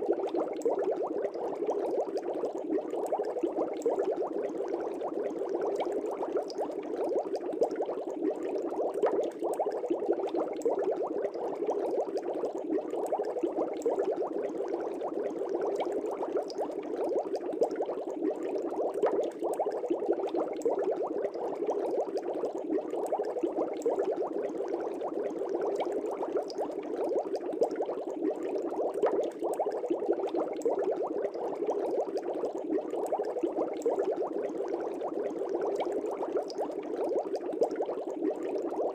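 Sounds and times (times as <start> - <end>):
air bubbles in aquarium water: 0.0 - 38.9.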